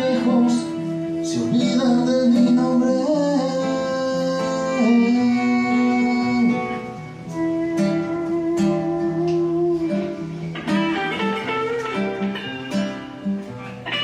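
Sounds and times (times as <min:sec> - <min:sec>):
acoustic guitar plucking chords: 0:00.0 - 0:14.0
electric guitar long notes: 0:00.0 - 0:14.0.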